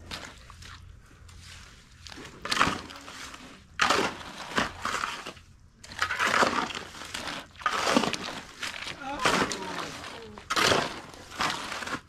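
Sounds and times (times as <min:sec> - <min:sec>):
stones and gravel crunching: 0:00.0 - 0:12.0.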